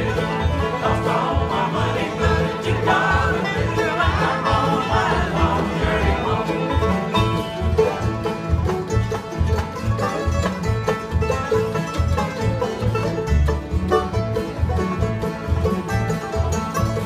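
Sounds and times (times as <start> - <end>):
bluegrass banjo guitar and fiddle: 0.0 - 17.0.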